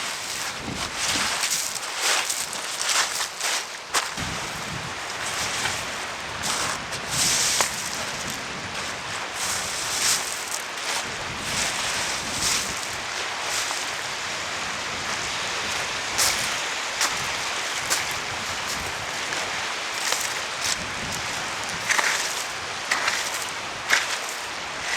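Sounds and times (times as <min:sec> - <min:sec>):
rain hiss: 0:00.0 - 0:24.9
wind: 0:00.0 - 0:24.9.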